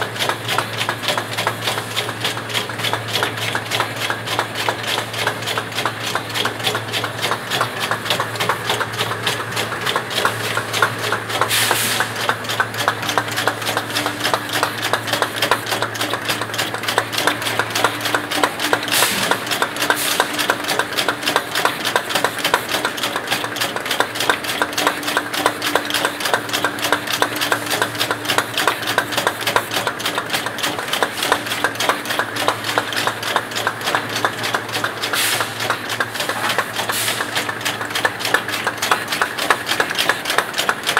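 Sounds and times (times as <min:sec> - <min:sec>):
machine rapid clicking clatter: 0:00.0 - 0:40.9.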